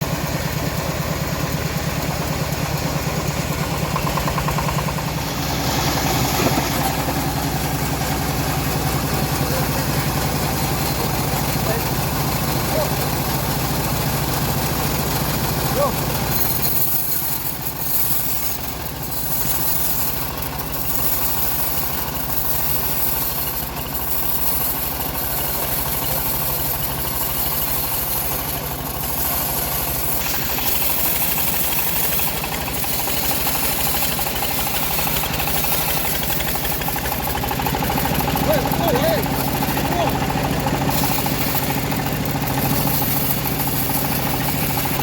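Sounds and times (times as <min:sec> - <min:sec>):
sawmill engine running: 0:00.0 - 0:45.0.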